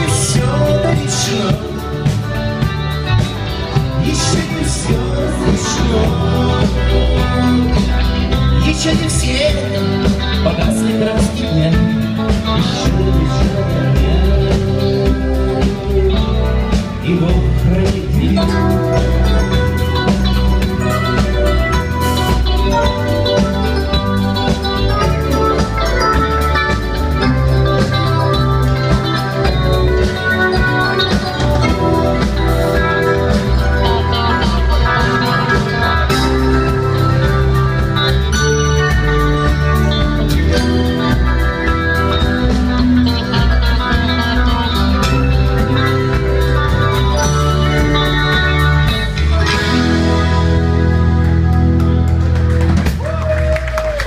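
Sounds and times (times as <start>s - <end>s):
band playing instrumental music: 0.0s - 54.0s.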